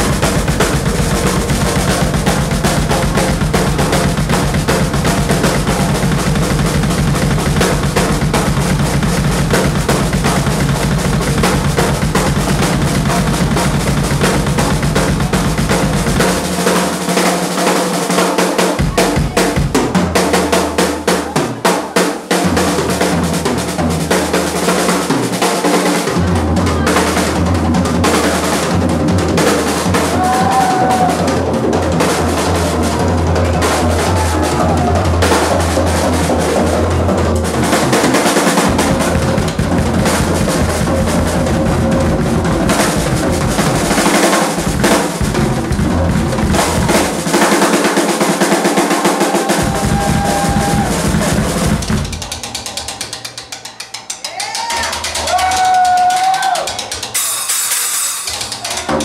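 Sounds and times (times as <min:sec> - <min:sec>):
drum kit solo: 0:00.0 - 0:59.0
rapid heavy bass drum: 0:00.0 - 0:59.0.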